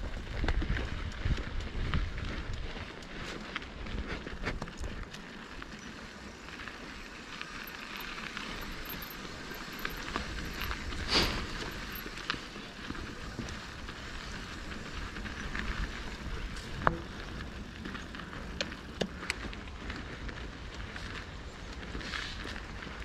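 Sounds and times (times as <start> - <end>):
tyres crackling on loose dirt: 0.0 - 23.0.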